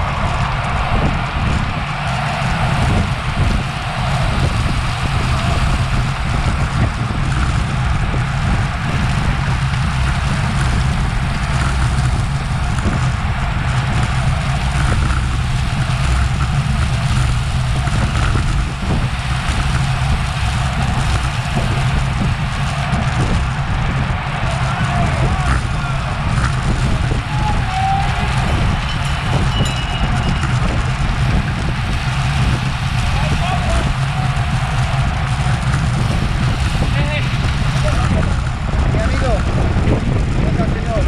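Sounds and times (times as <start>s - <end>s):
road rumble: 0.0s - 41.0s
wind rush: 0.0s - 41.0s.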